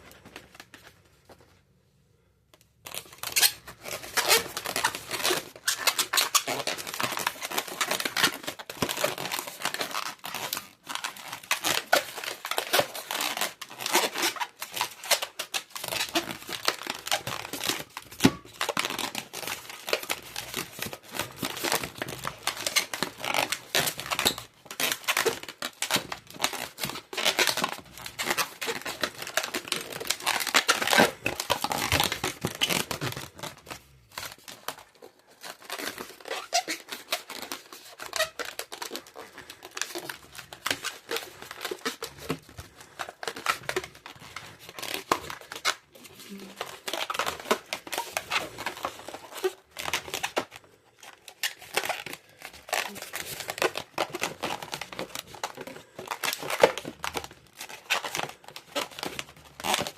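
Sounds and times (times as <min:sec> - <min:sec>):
rubber balloons squeaking and crinkling: 0:00.0 - 0:00.8, 0:02.7 - 0:59.9.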